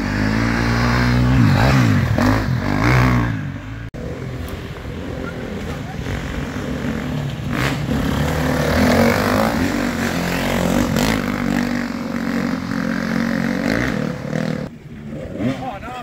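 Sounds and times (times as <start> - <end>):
dirt bikes revving past: 0.0 - 16.0.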